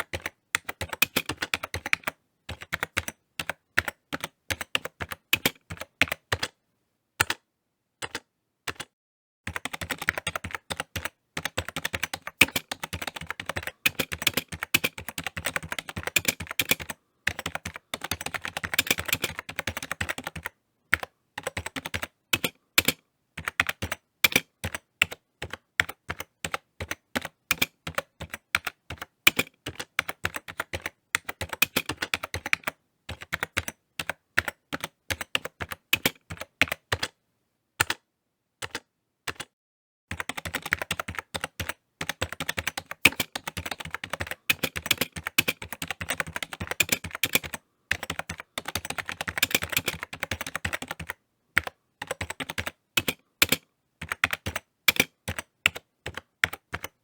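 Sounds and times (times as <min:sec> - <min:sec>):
computer keyboard typing: 0:00.0 - 0:06.6, 0:07.2 - 0:07.4, 0:08.0 - 0:08.9, 0:09.5 - 0:37.2, 0:37.8 - 0:38.0, 0:38.6 - 0:39.5, 0:40.1 - 0:57.0.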